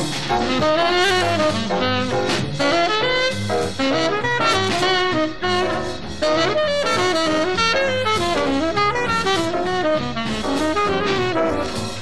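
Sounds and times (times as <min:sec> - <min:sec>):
jazz saxophone and brass: 0:00.0 - 0:12.0
low bass pattern: 0:00.0 - 0:12.0.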